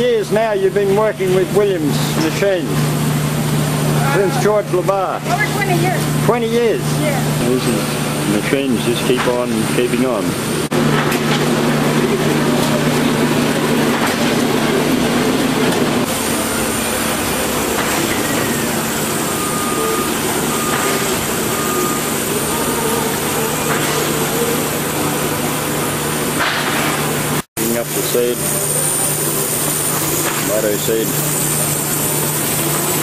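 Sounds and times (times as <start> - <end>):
motor hum: 0.0 - 33.0.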